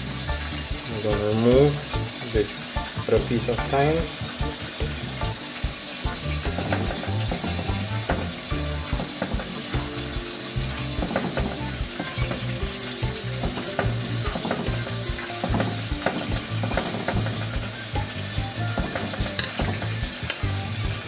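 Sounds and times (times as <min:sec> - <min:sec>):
rice sizzling in pot: 0:00.0 - 0:21.0.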